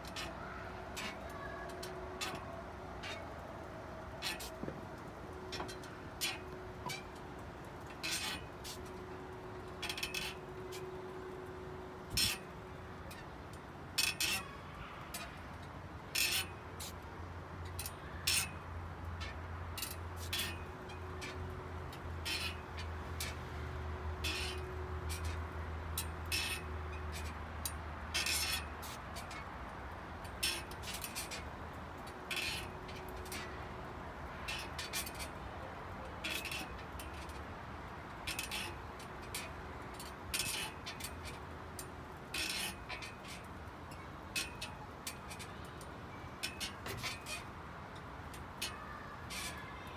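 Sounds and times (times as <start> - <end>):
swing creaking and clinking: 0.0 - 49.9.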